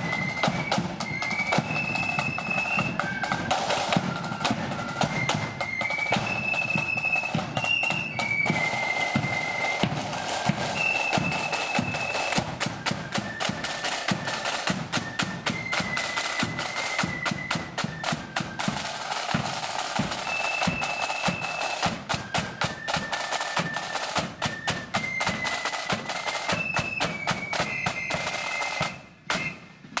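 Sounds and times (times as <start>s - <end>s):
fast snare drumming: 0.0s - 30.0s
flutes playing melody: 0.0s - 30.0s.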